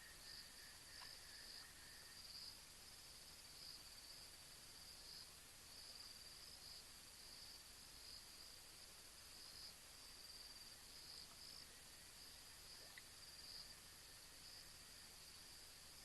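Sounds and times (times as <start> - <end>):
night insects trilling: 0.0 - 16.0
steady hiss: 0.0 - 16.0.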